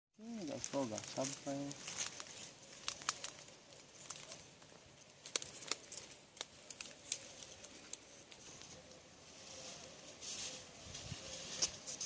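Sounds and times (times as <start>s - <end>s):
faint outdoor ambience: 0.2s - 12.0s.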